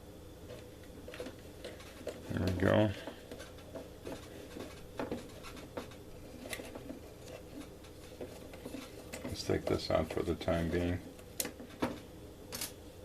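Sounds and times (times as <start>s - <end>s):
faint rubbing: 0.5s - 11.0s.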